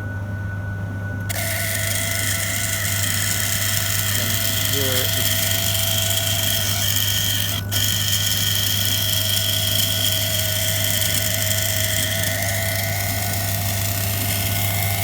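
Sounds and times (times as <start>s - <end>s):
pump high-pitched whine: 1.2s - 15.0s.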